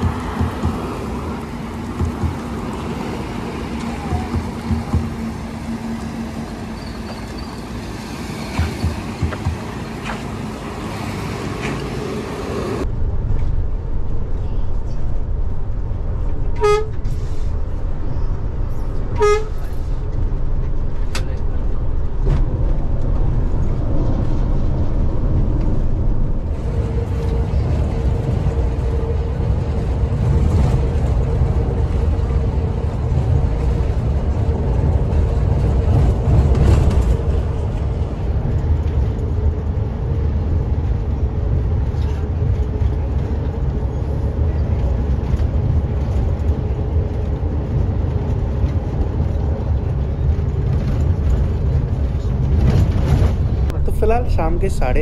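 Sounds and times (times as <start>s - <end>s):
bus diesel engine rumble: 0.0s - 55.0s.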